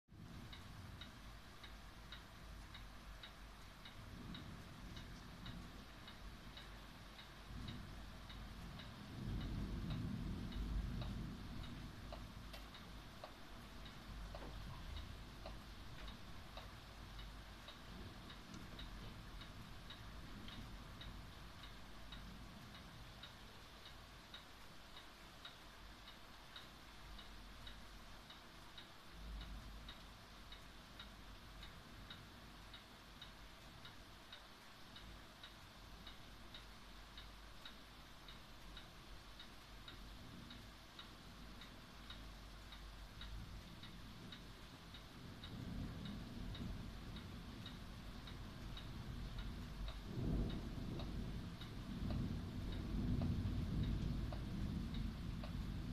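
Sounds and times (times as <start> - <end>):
faint steady ticking: 0.1 - 55.9
low rumble: 0.2 - 24.4, 34.9 - 55.9.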